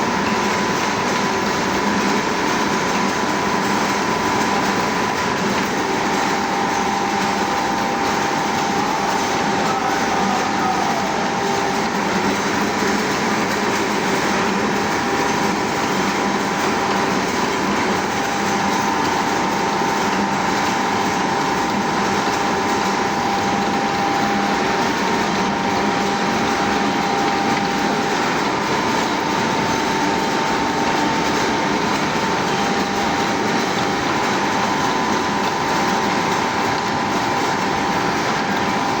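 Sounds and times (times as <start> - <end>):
lathe running with high whine: 0.0 - 39.0.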